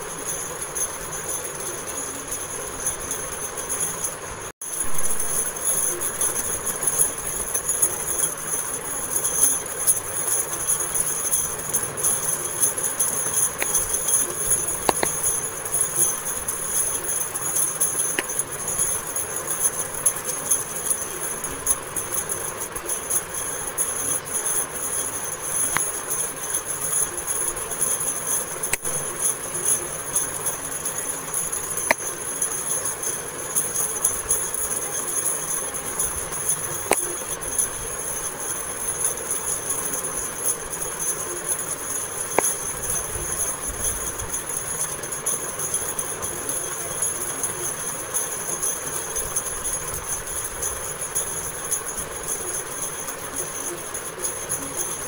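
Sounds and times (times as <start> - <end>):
high-pitched jingling: 0.0 - 55.0.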